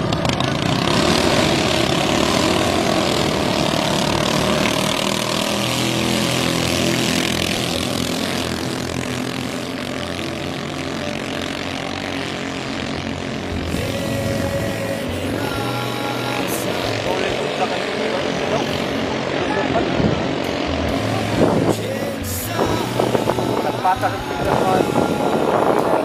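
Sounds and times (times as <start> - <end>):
racing boat engines buzzing: 0.0 - 26.0.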